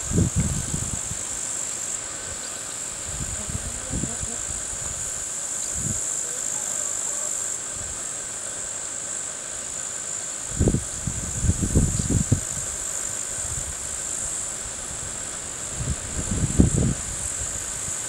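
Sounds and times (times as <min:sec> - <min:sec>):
insects buzzing drone: 0:00.0 - 0:18.0.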